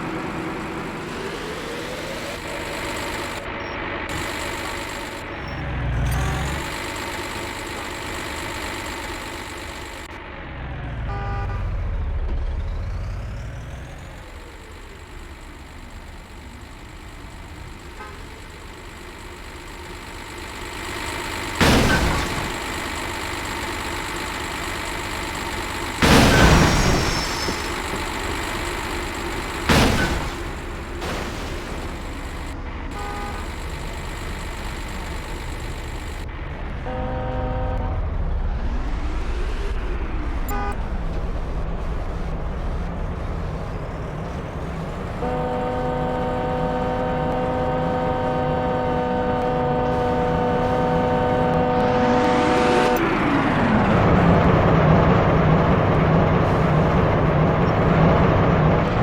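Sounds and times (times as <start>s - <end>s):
car horns honking: 0.0s - 10.2s, 10.8s - 12.5s, 13.4s - 38.4s, 40.4s - 41.0s, 44.3s - 54.4s
traffic rumble: 0.0s - 59.0s.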